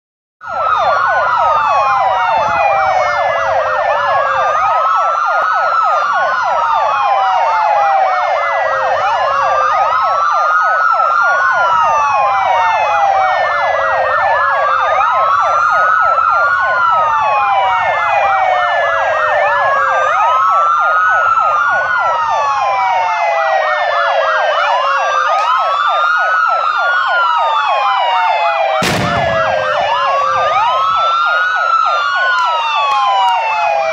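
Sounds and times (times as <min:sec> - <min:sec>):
police sirens yelping and wailing: 0:00.4 - 0:33.9.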